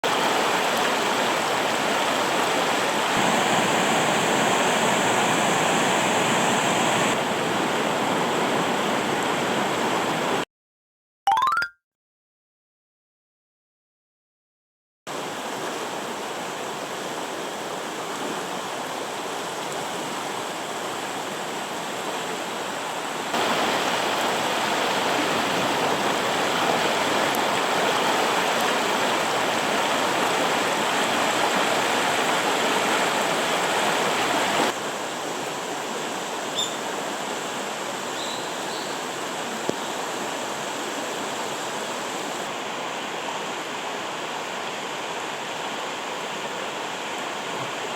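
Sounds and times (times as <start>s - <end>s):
mountain stream rushing: 0.0s - 10.4s, 15.1s - 47.9s.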